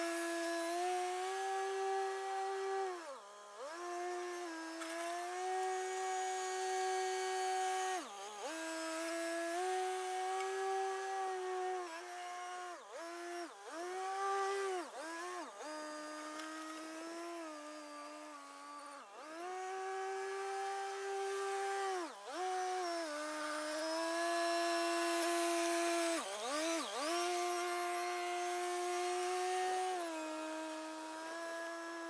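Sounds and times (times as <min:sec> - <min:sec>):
steady whining tone: 0:00.0 - 0:32.0.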